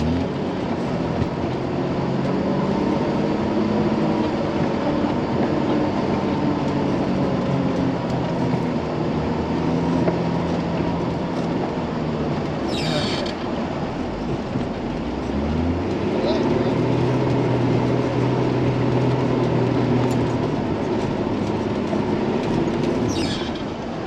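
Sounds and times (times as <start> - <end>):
truck engine under load: 0.0 - 24.0
tyre and drivetrain noise: 0.0 - 24.0.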